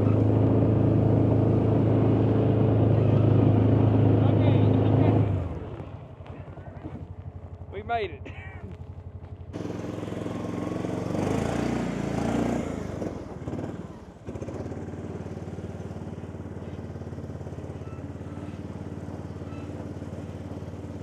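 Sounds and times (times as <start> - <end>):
utility cart engine running: 0.0 - 21.0.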